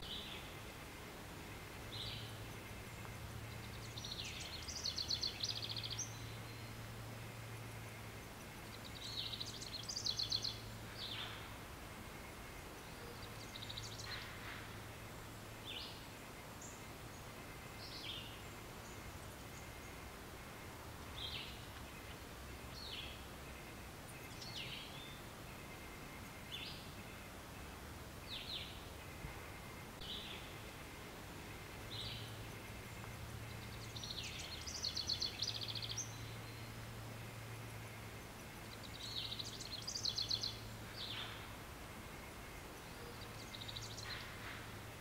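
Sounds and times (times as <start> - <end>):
birds chirping: 0.0 - 45.0
faint low hum: 0.0 - 45.0
steady background hiss: 0.0 - 45.0.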